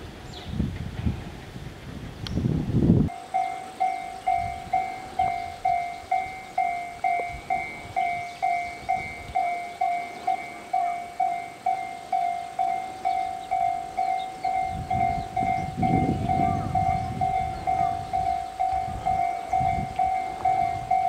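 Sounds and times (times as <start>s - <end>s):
railroad crossing alarm ringing: 3.1s - 21.0s.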